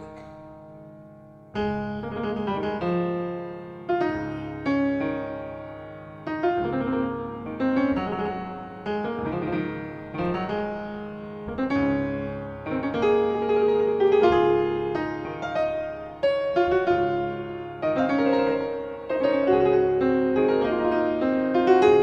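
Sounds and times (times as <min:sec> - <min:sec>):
pianos playing chords: 0:00.0 - 0:22.0.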